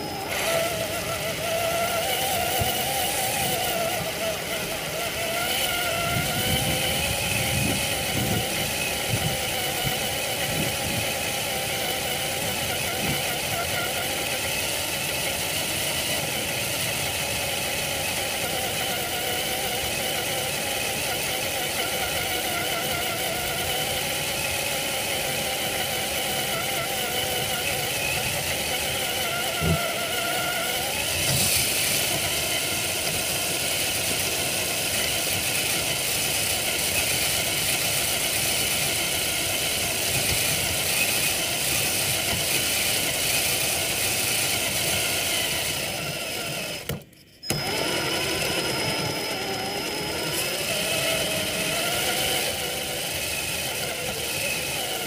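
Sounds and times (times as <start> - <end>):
electric motor whining: 0.0 - 55.0.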